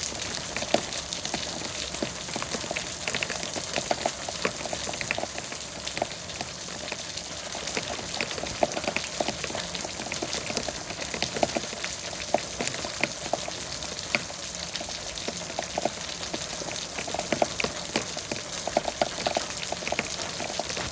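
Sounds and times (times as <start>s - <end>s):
raindrops ticking on a surface: 0.0s - 20.9s.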